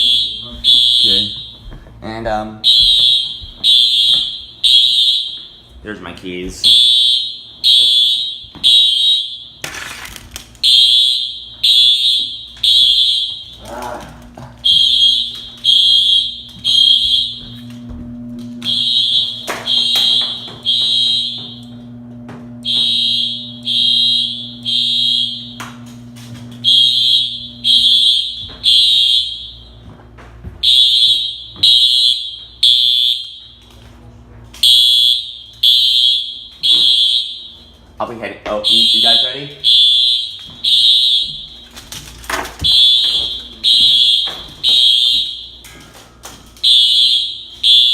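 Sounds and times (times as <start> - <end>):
fire alarm beeping: 0.0 - 2.0, 2.6 - 5.8, 6.6 - 10.0, 10.6 - 13.8, 14.6 - 30.0, 30.6 - 47.9
steady low hum: 0.0 - 47.9.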